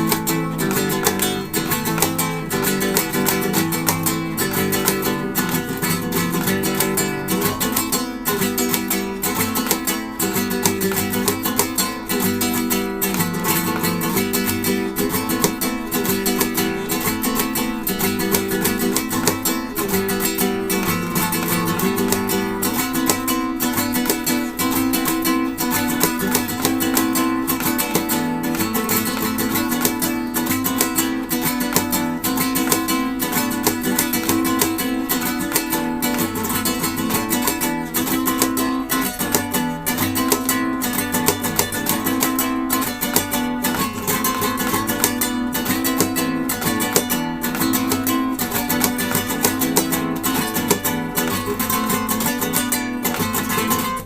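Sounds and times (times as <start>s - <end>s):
acoustic guitar plucked notes: 0.0s - 54.0s.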